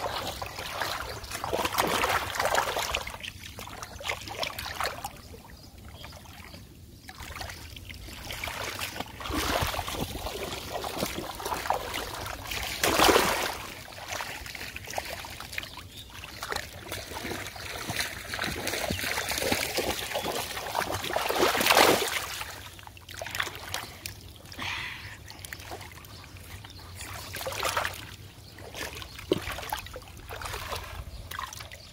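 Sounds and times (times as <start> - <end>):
shallow water splashing: 0.0 - 31.9.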